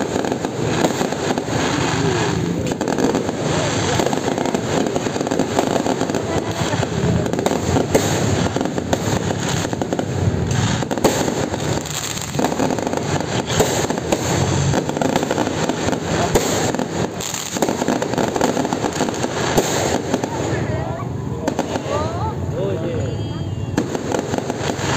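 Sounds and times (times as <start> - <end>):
fireworks bangs and crackling pops: 0.0 - 23.0, 23.6 - 24.9.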